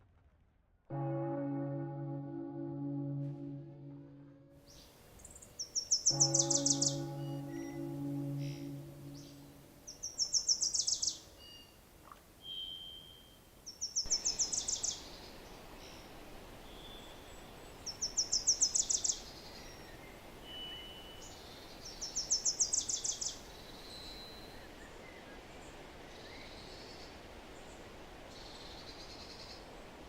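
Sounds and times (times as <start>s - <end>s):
outdoor background hiss: 4.6s - 30.0s.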